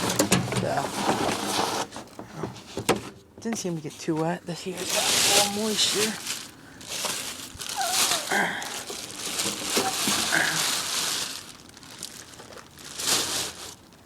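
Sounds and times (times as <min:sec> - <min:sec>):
crinkling and rustling: 0:00.0 - 0:14.0.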